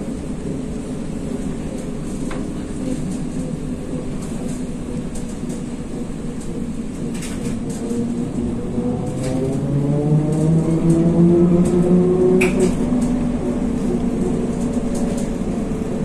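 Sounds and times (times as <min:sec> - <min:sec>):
road and tyre noise: 0:00.0 - 0:16.0.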